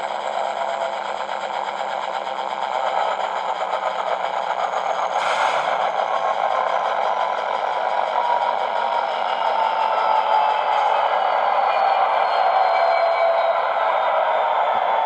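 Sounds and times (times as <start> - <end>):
diesel engine through small speaker: 0.0 - 15.0.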